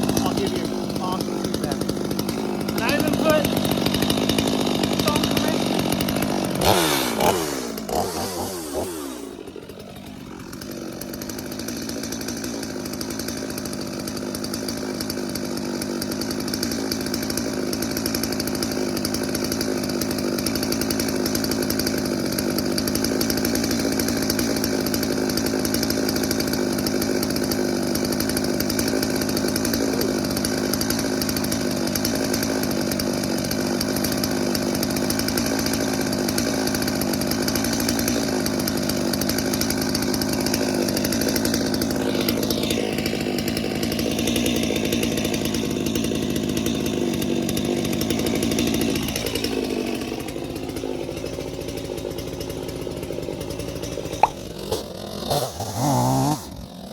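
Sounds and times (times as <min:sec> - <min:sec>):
chainsaw engine running: 0:00.0 - 0:56.9.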